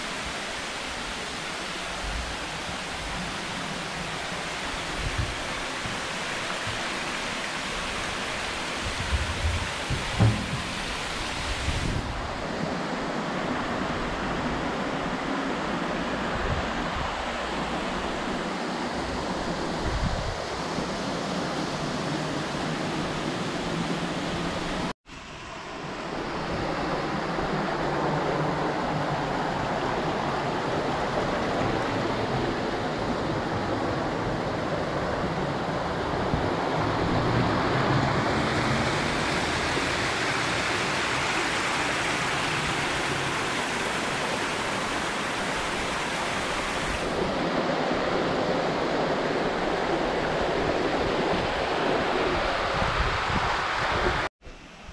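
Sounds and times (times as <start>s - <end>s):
stream running over rocks: 0.0s - 25.0s, 25.9s - 54.3s
small waterfall rushing: 0.0s - 54.9s.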